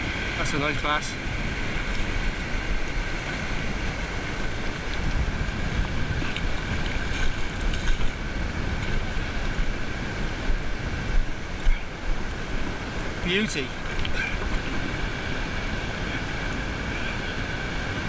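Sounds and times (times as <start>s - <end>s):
shallow surf washing: 0.0s - 18.0s
wind rumbling on microphone: 0.0s - 18.0s.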